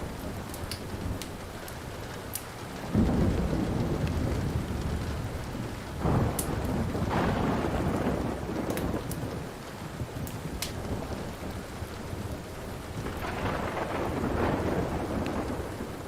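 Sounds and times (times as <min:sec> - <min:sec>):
steady rain: 0:00.0 - 0:16.0
wood fire crackling: 0:00.0 - 0:16.0
rolling thunder: 0:02.8 - 0:16.0.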